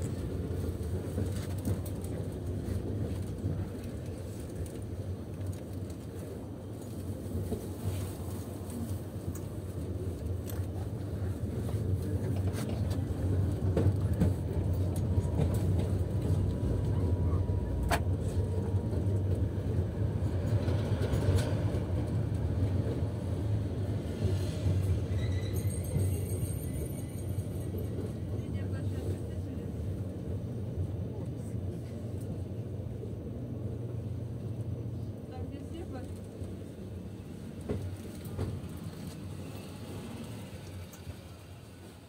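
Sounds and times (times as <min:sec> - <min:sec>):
tram rumble: 0:00.0 - 0:42.0.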